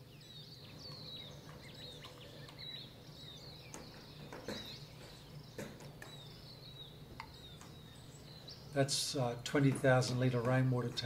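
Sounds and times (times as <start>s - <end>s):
low outdoor ambient hum: 0.0s - 11.0s
small birds chirping: 0.0s - 11.0s.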